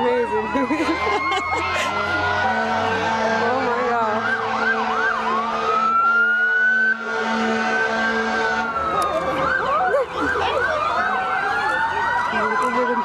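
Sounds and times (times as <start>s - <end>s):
fire truck sirens wailing: 0.0s - 13.0s.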